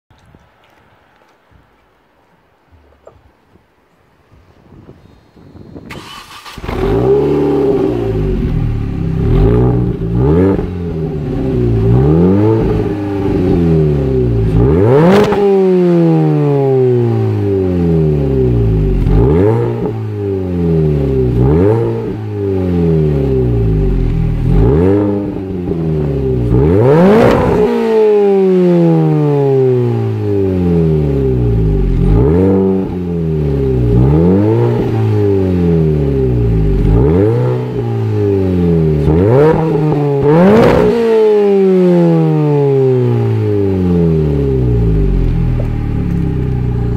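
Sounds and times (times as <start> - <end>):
car engine revving: 5.9 - 46.9.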